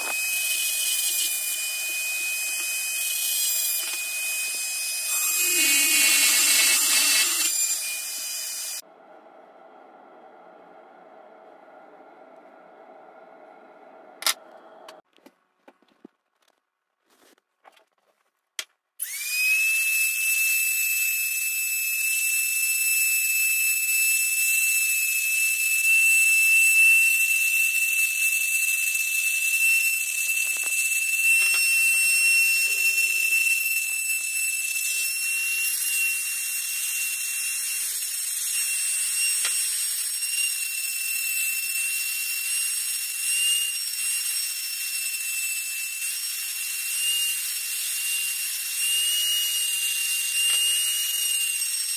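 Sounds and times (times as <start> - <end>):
stone bit grinding steel: 0.0 - 8.8, 19.0 - 51.9
rotary tool high whine: 0.0 - 15.0, 19.0 - 51.9.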